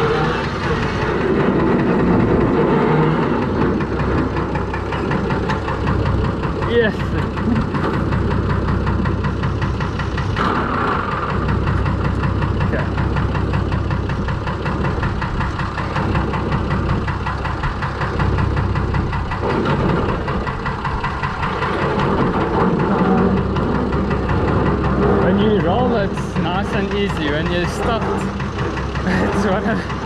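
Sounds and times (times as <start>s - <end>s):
diesel tractor engine running: 0.0s - 30.0s.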